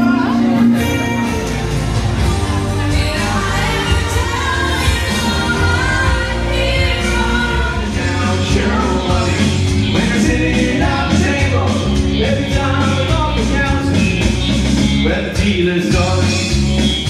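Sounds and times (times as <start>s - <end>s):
band music with singer: 0.0s - 17.0s.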